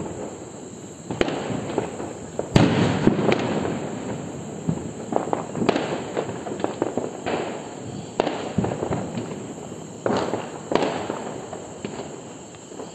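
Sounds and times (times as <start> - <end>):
crackling firework pops: 0.0 - 12.9
firework rockets bursting: 0.0 - 12.9.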